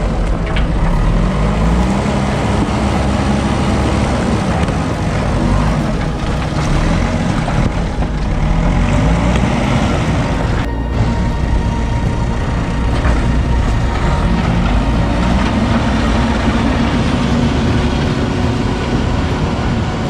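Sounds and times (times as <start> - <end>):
heavy vehicle engine revving: 0.0 - 20.0.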